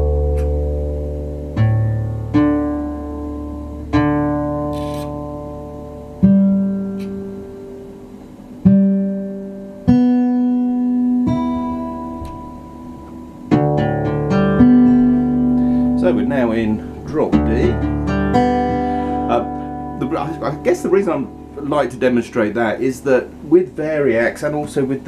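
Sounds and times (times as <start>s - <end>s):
acoustic guitar strings plucked: 0.0s - 23.4s
strummed guitar chords: 0.0s - 25.0s.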